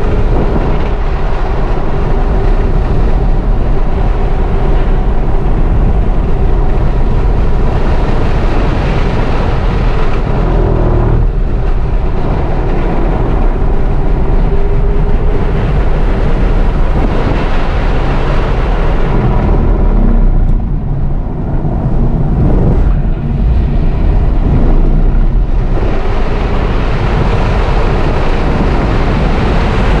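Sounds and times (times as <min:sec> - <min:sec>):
faint pitched motor whine: 0:00.0 - 0:29.7
wind and tyre noise: 0:00.0 - 0:30.0.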